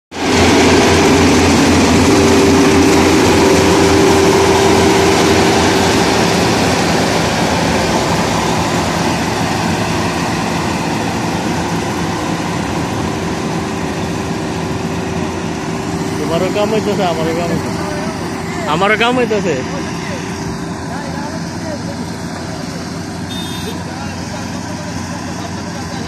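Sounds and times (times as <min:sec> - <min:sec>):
combine harvester engine drone: 0:00.1 - 0:26.0.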